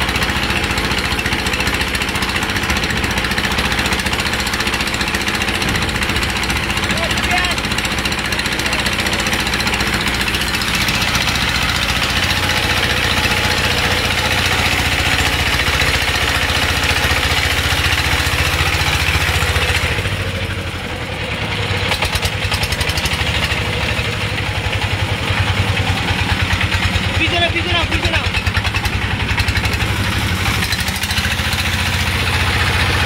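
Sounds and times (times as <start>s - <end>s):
boat engine chugging: 0.0s - 33.0s.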